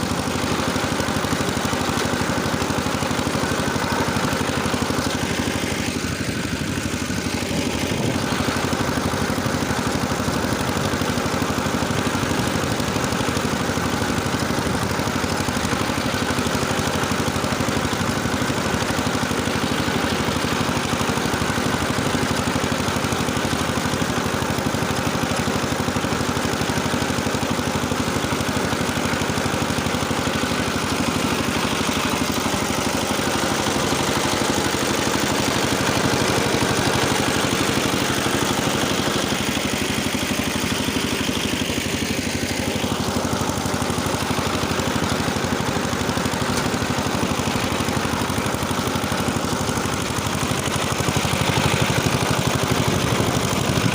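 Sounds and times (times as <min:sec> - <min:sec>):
rotary tiller engine running: 0:00.0 - 0:53.9.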